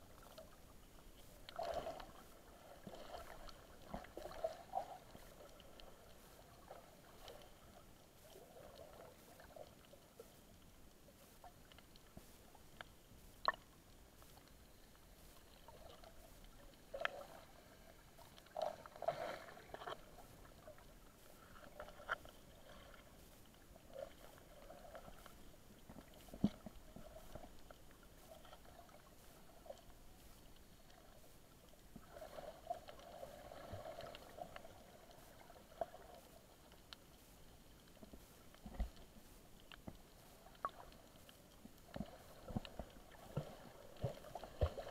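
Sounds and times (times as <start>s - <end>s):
water gurgling: 0.0s - 10.6s, 13.4s - 30.2s, 30.8s - 36.8s, 37.8s - 44.9s.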